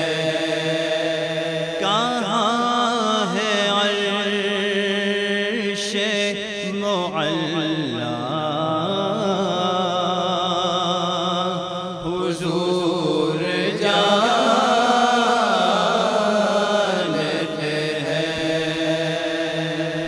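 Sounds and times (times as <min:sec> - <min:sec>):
men chanting long held notes: 0:00.0 - 0:05.6, 0:07.1 - 0:20.0.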